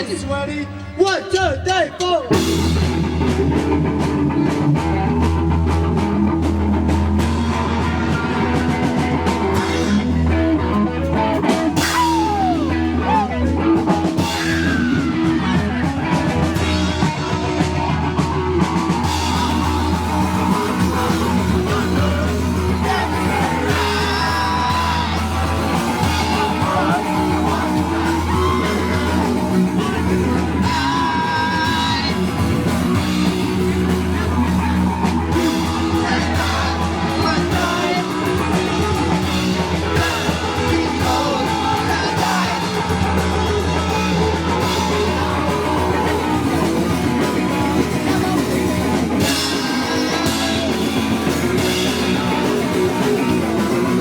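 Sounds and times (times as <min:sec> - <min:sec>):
distorted electric guitar: 0:00.0 - 0:54.0
drums: 0:00.0 - 0:54.0
person singing: 0:07.6 - 0:54.0.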